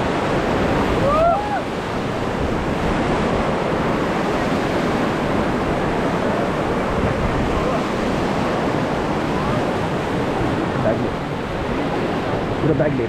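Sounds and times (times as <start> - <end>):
river water rushing: 0.0 - 13.0
wind buffeting microphone: 0.0 - 13.0.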